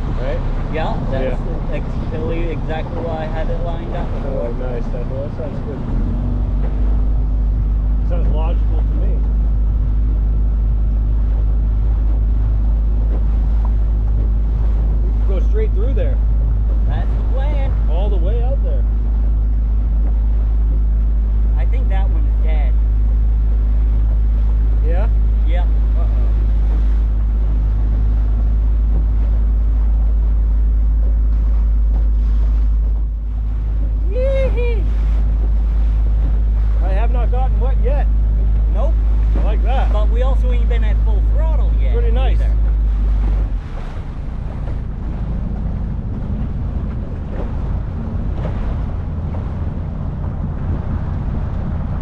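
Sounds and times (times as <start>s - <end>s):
boat motor running: 0.0s - 52.0s
water rushing past hull: 0.0s - 52.0s
wind buffeting microphone: 0.0s - 52.0s.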